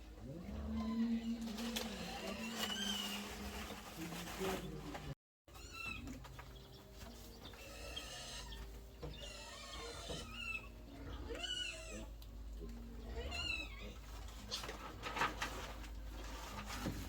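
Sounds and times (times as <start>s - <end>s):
farm animals calling: 0.0s - 17.0s.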